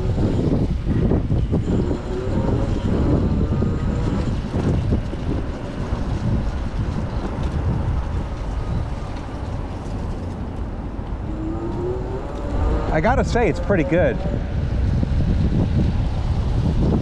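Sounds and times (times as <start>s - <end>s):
low rumble of city traffic: 0.0s - 17.0s
wind buffeting microphone: 0.0s - 17.0s.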